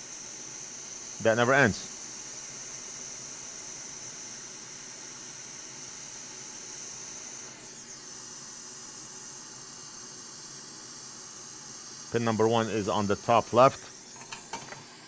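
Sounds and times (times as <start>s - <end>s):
hot air station hissing: 0.0s - 15.0s.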